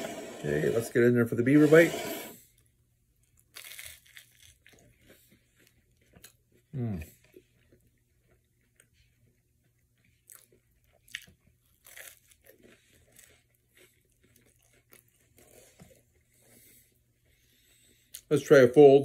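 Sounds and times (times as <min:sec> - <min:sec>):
person chewing crunchy toast: 0:02.5 - 0:18.3.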